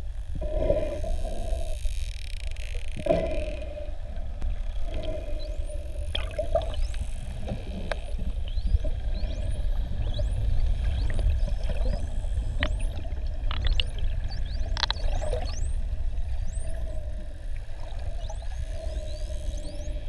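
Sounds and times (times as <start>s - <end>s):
low underwater hum: 0.0s - 20.0s.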